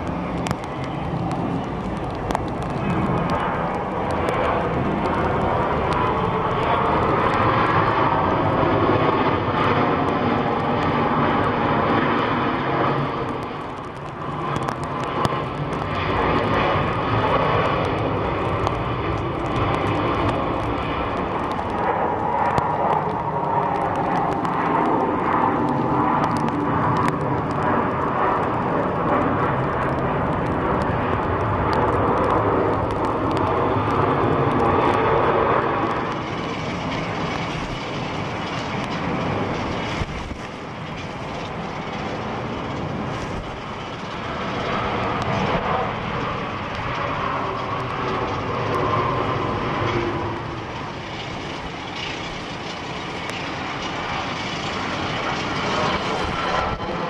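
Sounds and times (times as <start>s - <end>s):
jet engines at high power: 0.0s - 57.0s.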